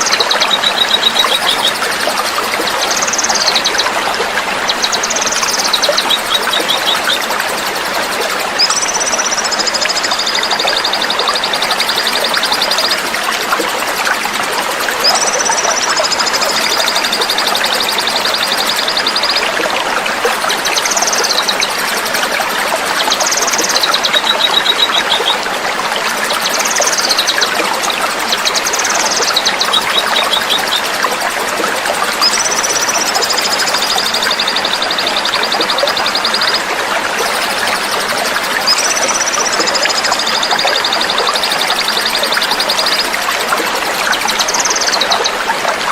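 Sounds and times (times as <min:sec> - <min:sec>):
songbird singing rattling trills: 0:00.0 - 0:19.5, 0:20.4 - 0:25.4, 0:26.0 - 0:45.4
flowing water rushing: 0:00.0 - 0:45.9.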